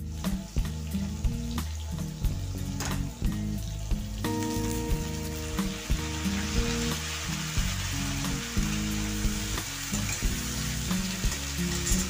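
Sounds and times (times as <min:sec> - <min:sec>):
background music: 0:00.0 - 0:12.0
vegetables sizzling in hot oil: 0:00.0 - 0:12.0.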